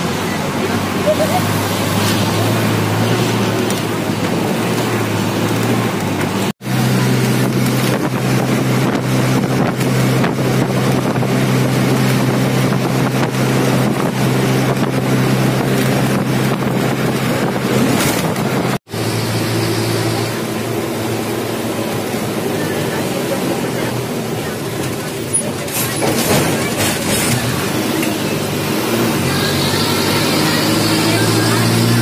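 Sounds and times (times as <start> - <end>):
vehicle engine drone: 0.0 - 32.0
wind and road rush: 0.0 - 32.0.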